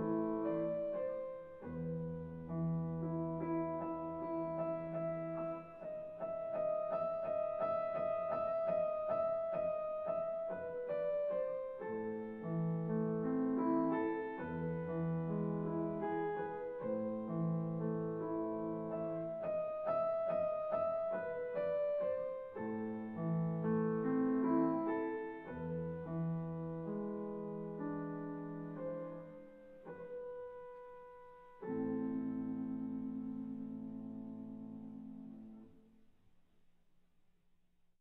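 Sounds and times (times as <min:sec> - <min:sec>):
solo piano music: 0:00.0 - 0:36.1.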